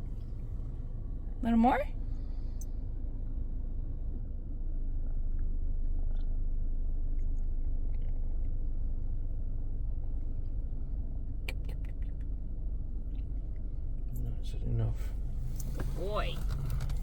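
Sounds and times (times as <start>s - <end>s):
car engine rumble in cabin: 0.0s - 17.0s.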